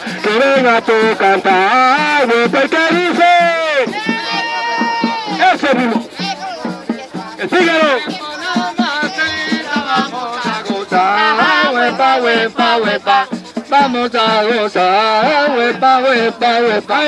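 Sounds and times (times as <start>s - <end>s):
hand-beaten frame drums: 0.0s - 17.0s
person singing: 0.0s - 17.0s
rattling maraca: 0.0s - 17.0s.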